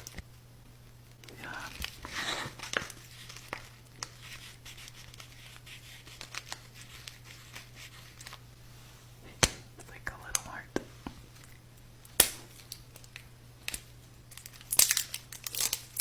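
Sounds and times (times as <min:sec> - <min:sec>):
crackling and crinkling: 0:00.0 - 0:16.0
steady low hum: 0:00.0 - 0:16.0.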